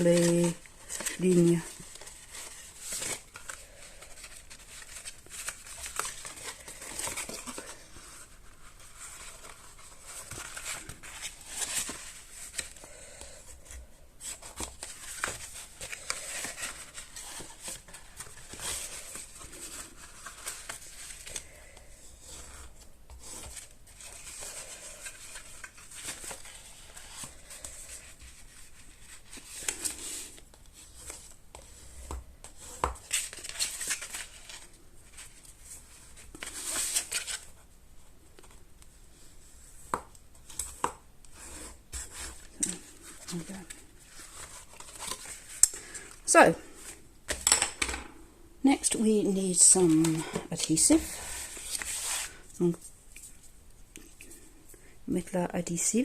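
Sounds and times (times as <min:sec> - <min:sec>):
cardstock rustling and scraping: 0:00.0 - 0:37.6, 0:39.4 - 0:47.0, 0:49.4 - 0:53.5.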